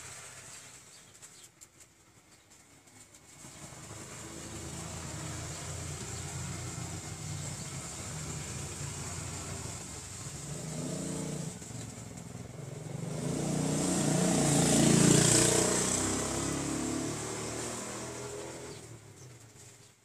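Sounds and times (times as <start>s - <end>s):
motor vehicle passing by: 3.2s - 19.7s.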